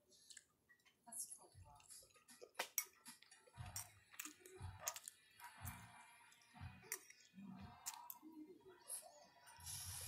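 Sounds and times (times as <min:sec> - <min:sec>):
soft chewing: 0:00.0 - 0:09.7.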